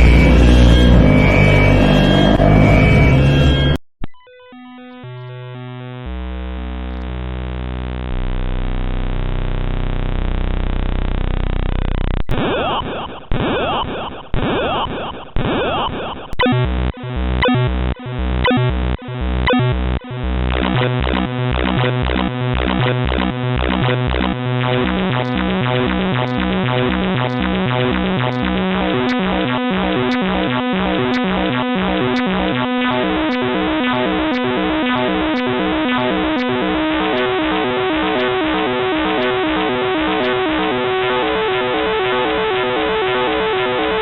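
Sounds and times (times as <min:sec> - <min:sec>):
harsh electronic alert tones: 0:00.0 - 0:06.1, 0:12.0 - 0:41.6.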